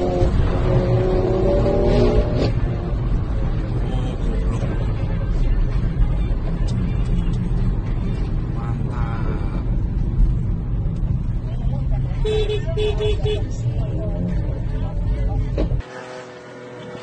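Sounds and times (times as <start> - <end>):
car interior road and engine rumble: 0.0 - 17.0.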